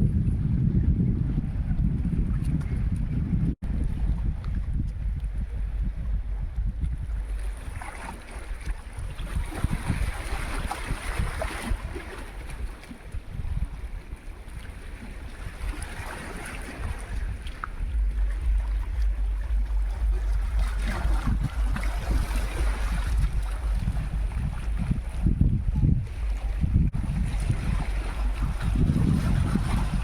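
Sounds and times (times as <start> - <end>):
wind buffeting microphone: 0.0 - 30.0
sea waves washing in: 3.7 - 30.0.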